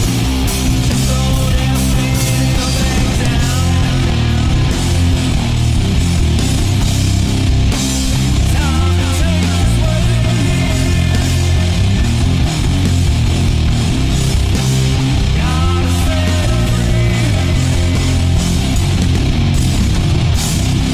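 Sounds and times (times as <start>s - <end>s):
rock song with electric guitar: 0.0s - 20.9s.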